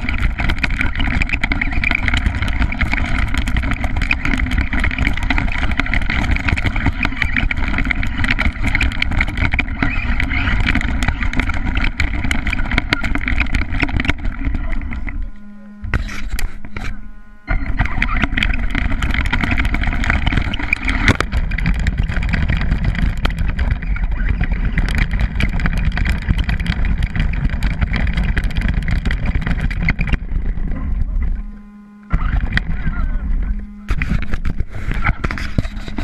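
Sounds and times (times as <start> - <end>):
chassis rattles and knocks: 0.0 - 36.0
rc truck drivetrain noise: 0.0 - 36.0.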